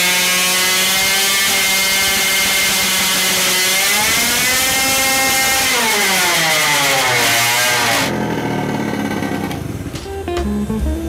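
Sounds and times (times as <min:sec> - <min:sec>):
two-stroke engine revving high: 0:00.0 - 0:10.0.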